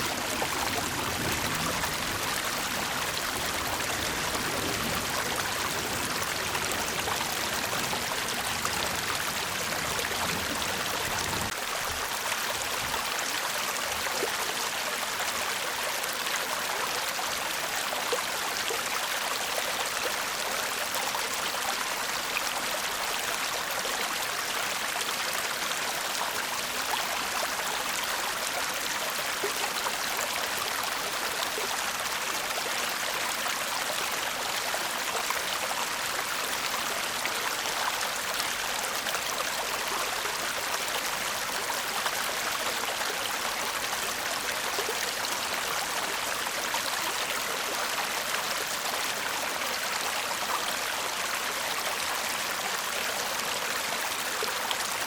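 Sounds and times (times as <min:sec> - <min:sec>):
brook babbling: 0:00.0 - 0:55.0.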